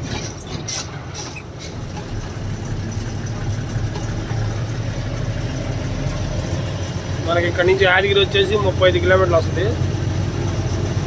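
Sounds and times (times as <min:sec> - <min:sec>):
diesel truck engine drone: 0:00.0 - 0:11.0
road noise: 0:00.0 - 0:11.0.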